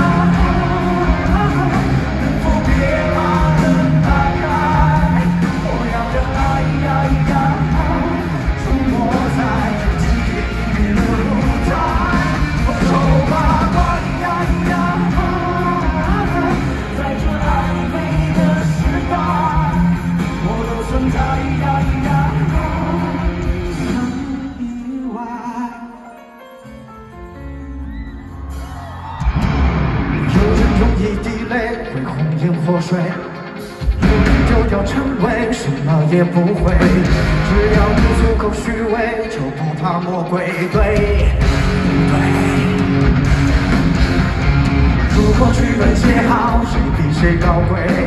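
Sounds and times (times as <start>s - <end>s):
live pop-rock band with singing: 0.0s - 26.1s, 27.7s - 48.0s.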